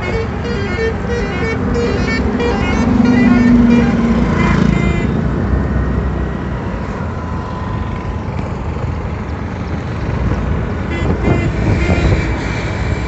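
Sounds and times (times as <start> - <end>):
motorcycle engine drone: 0.0 - 13.0
road noise: 0.0 - 13.0.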